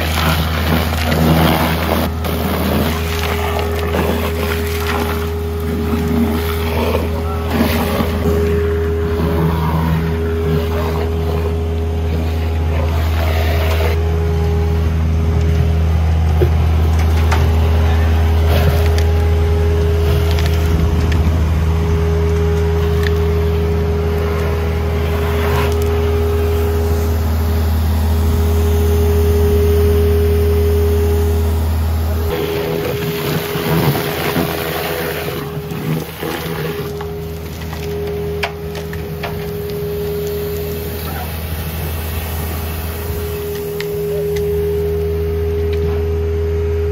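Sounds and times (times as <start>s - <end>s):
vacuum blower droning: 0.0s - 46.9s
vacuum tube sucking soil and water: 0.0s - 46.9s.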